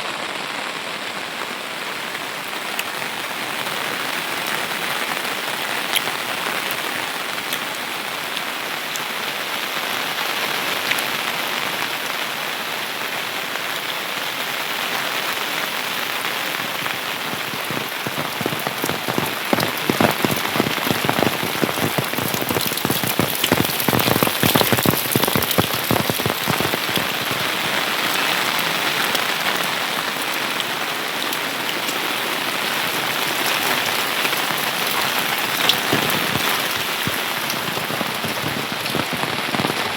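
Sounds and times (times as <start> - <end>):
rain drops hitting a surface: 0.0 - 39.9.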